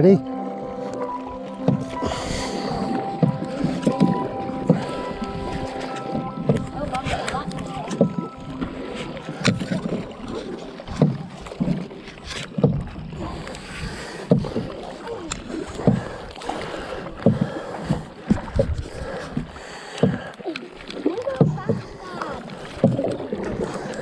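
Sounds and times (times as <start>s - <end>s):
paddles plunking in water: 0.0s - 24.0s.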